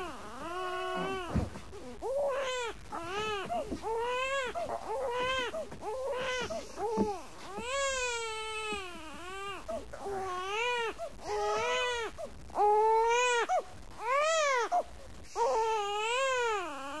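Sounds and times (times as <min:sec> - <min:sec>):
infant crying: 0:00.0 - 0:17.0.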